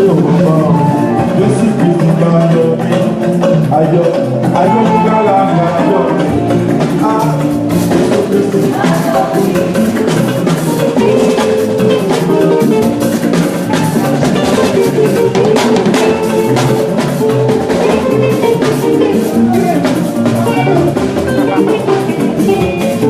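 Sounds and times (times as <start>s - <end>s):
drum kit with rimshots: 0.0s - 23.0s
live band music: 0.0s - 23.0s.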